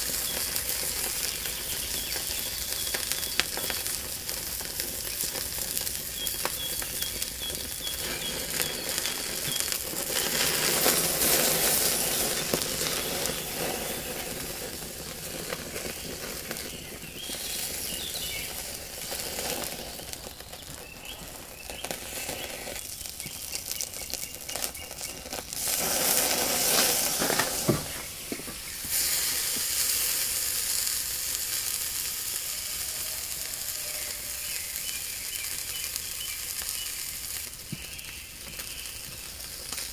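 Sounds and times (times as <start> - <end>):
steak sizzling on a grill: 0.0 - 39.9.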